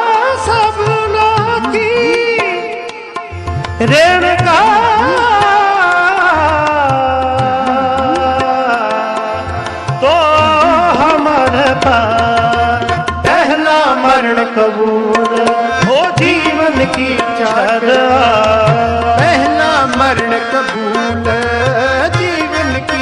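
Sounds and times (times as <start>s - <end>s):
harmonium tones: 0.0s - 23.0s
tabla beat: 0.0s - 23.0s.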